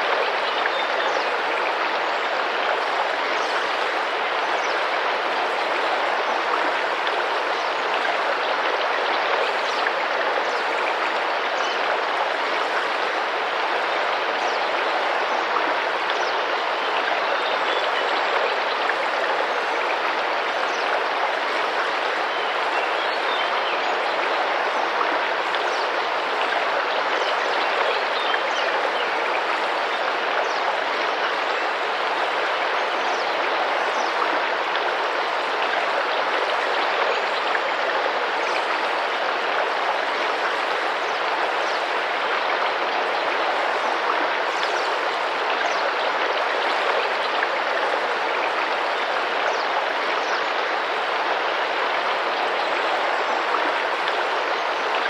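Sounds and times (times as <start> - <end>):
river water rushing and splashing: 0.0 - 55.0.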